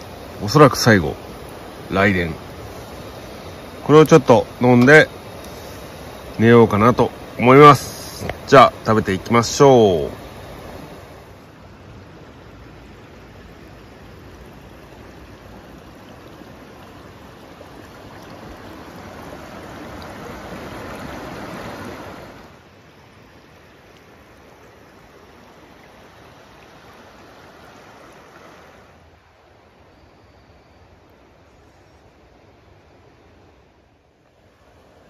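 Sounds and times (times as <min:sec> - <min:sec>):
river flowing over stones: 0:00.0 - 0:29.8, 0:32.2 - 0:35.0.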